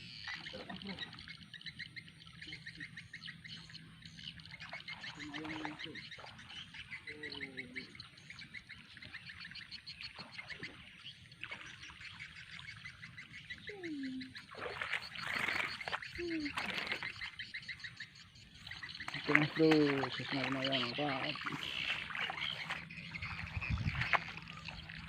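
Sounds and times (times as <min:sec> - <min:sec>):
low frog croaks: 0:00.0 - 0:11.6, 0:12.2 - 0:25.0
frogs trilling: 0:00.0 - 0:25.0.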